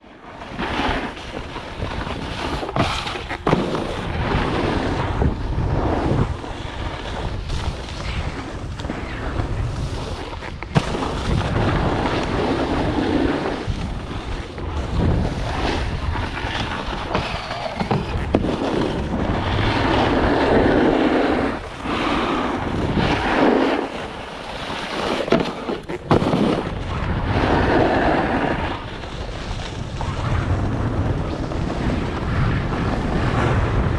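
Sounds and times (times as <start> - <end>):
snowboard scraping over snow: 0.0 - 33.9
wind buffeting microphone: 1.4 - 33.9.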